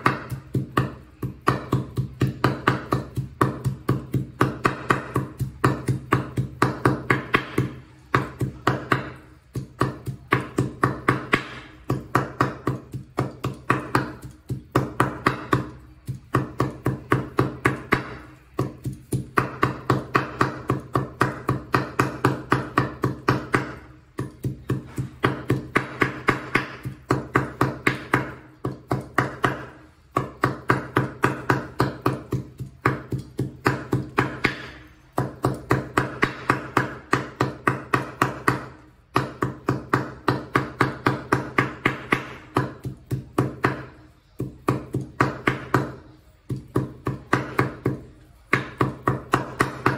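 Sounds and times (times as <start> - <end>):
knife chopping on wooden board: 0.0 - 49.9.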